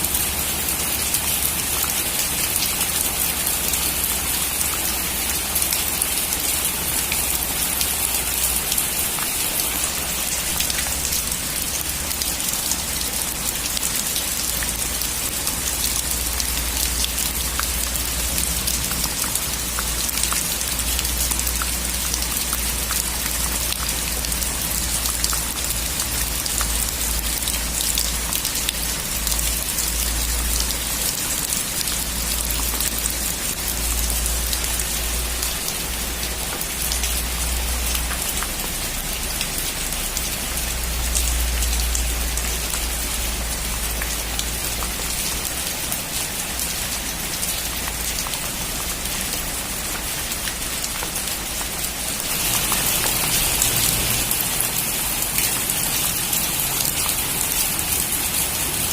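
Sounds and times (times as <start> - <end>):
heavy rain on metal roof: 0.0 - 58.9.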